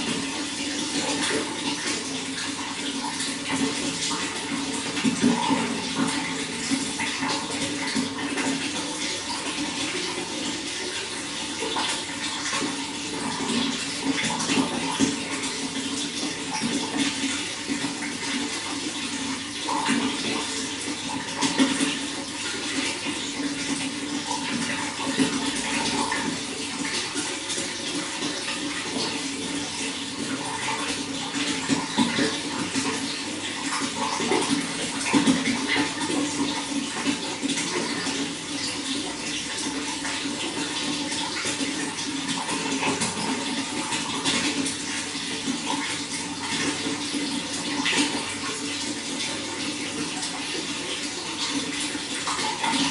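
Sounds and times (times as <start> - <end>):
running water with splashes: 0.0 - 52.9.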